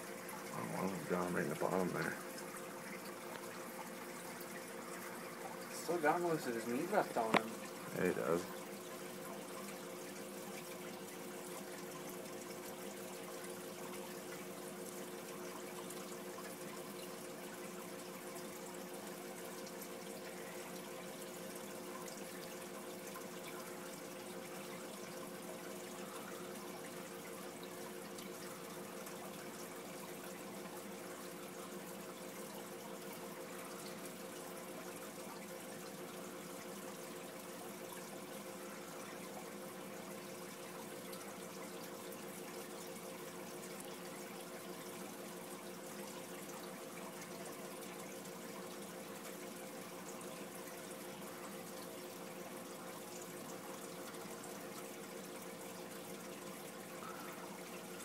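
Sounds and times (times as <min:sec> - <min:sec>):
constant hum: 0:00.0 - 0:58.0
filter water bubbling: 0:00.0 - 0:58.0.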